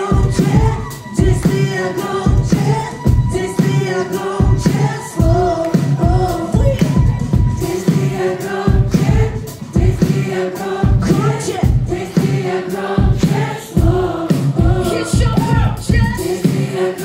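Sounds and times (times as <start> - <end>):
woman singing: 0.0 - 10.2, 13.0 - 16.7
live band playing pop song: 0.0 - 17.0
steady drum beat: 0.0 - 17.0.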